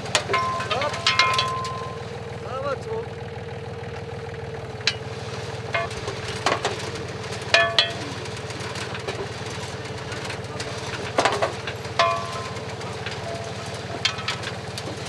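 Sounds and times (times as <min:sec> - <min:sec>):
machinery knocks and clinks: 0:00.0 - 0:02.1, 0:04.8 - 0:15.0
tractor engine running: 0:00.0 - 0:15.0.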